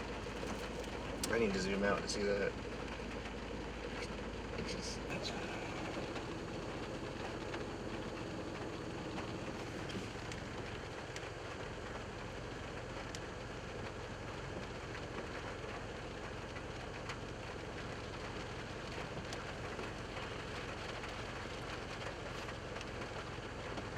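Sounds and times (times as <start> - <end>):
steady rain: 0.0 - 23.9.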